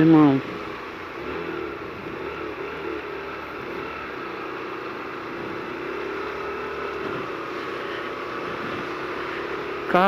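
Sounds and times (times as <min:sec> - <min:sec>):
motorcycle engine running: 0:00.0 - 0:10.0
tyres hissing on wet road: 0:00.1 - 0:10.0.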